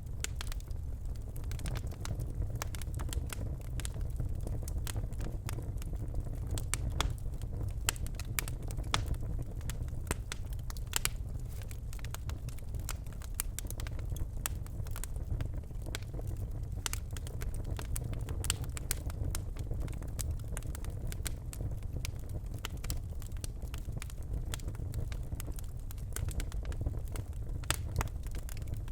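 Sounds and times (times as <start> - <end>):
logs crackling and popping: 0.0 - 28.9
low rumble of flames: 0.0 - 28.9.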